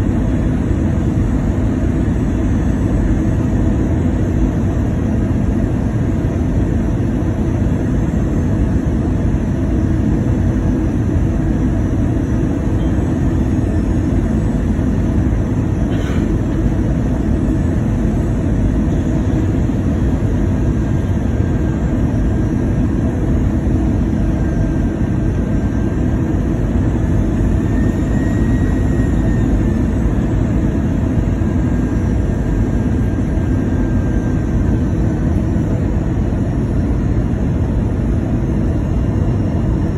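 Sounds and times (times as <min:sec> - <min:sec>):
engine and airflow rumble: 0:00.0 - 0:39.9
faint steady whine: 0:00.0 - 0:39.9.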